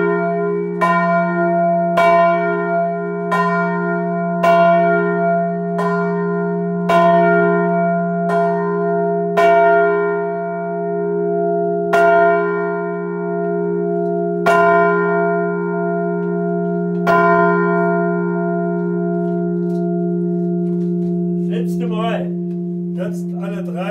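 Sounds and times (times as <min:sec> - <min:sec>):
church bell ringing: 0:00.0 - 0:23.9.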